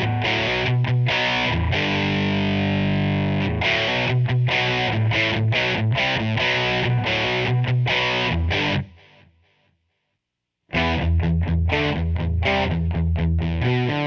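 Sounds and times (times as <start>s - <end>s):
electric guitar riff: 0.0s - 9.2s, 10.7s - 14.0s.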